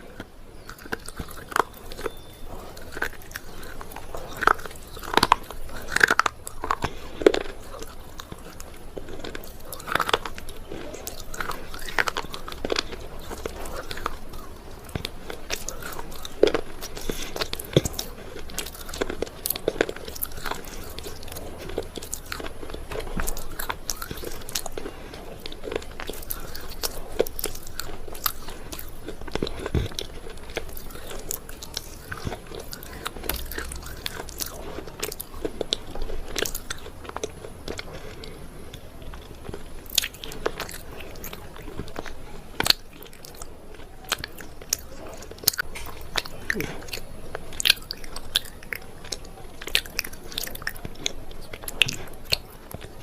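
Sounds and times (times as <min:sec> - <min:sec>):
person chewing something crunchy: 0:00.0 - 0:53.0.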